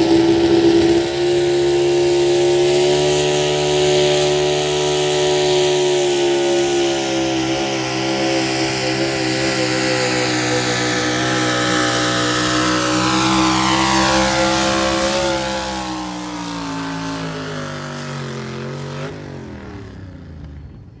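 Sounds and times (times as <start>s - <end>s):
truck engine high-revving drone: 0.0s - 21.0s.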